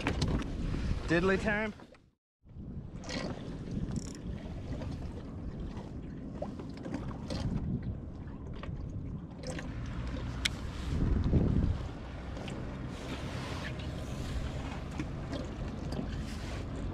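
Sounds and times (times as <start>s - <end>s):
wind buffeting microphone: 0.0s - 1.7s, 2.4s - 16.9s
water lapping against hull: 0.0s - 16.9s.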